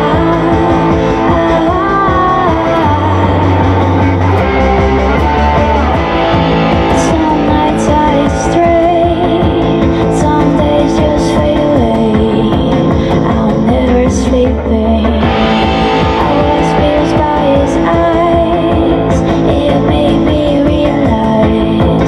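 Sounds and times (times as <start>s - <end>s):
drums and cymbal hits: 0.0s - 14.2s, 15.2s - 22.0s
electric guitar: 0.0s - 22.0s
held bass notes: 0.0s - 22.0s.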